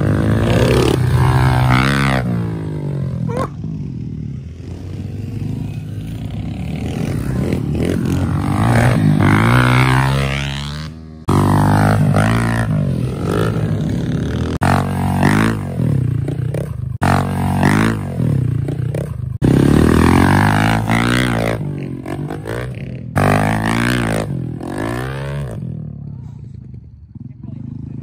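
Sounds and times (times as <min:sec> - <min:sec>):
small motorcycle engine revving: 0:00.0 - 0:28.0.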